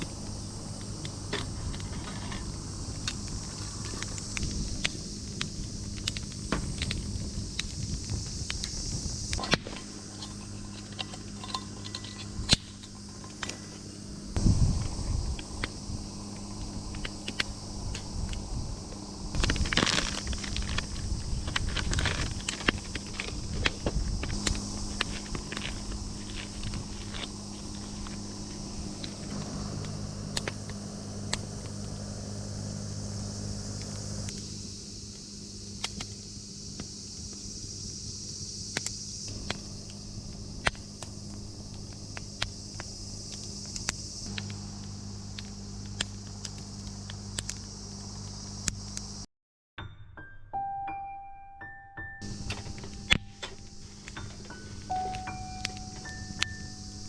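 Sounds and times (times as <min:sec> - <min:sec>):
wood fire crackling: 0:00.0 - 0:49.2, 0:52.2 - 0:57.0
steady hiss and low hum: 0:00.0 - 0:49.3, 0:52.2 - 0:57.0.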